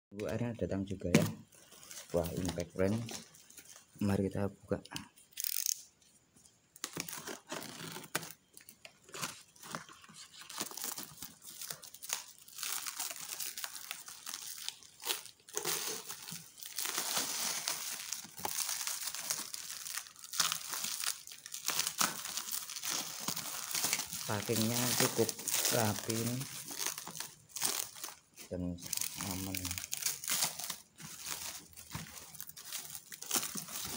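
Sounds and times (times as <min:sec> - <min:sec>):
plastic wrapping crinkling and tearing: 0:00.9 - 0:04.2, 0:04.9 - 0:05.9, 0:06.8 - 0:33.9.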